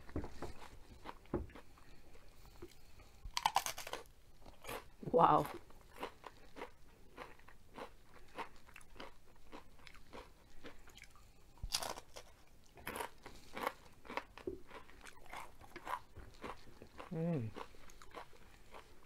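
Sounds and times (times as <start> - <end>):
chewing crispy food crunches: 0.6 - 1.9, 2.6 - 19.0.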